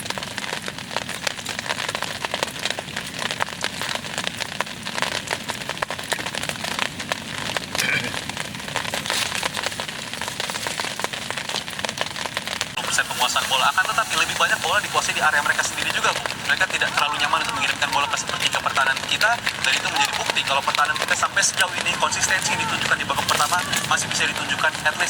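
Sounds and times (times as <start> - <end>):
rain pattering: 0.0 - 25.0.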